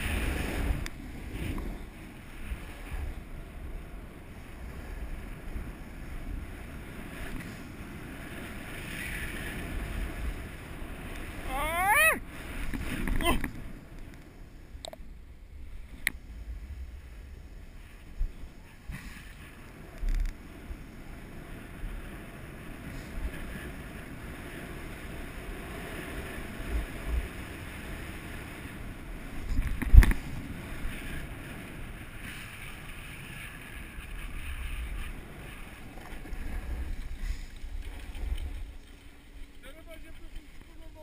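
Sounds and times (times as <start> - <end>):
wind noise on microphone: 0.0 - 41.0.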